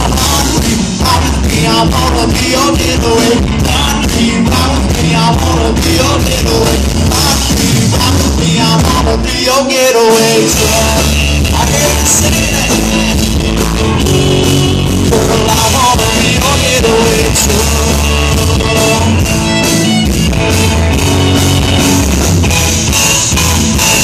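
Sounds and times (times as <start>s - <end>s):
country band playing: 0.0s - 24.0s
electric guitar lead: 0.0s - 24.0s.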